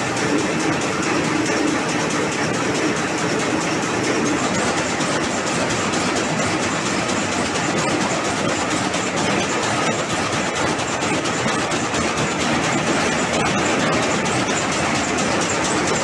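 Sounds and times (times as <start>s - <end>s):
weaving loom clattering: 0.0s - 16.0s.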